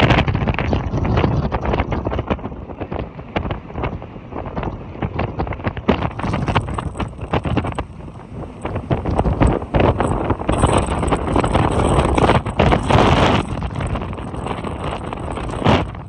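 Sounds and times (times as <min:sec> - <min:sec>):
gale wind buffeting microphone: 0:00.0 - 0:16.0.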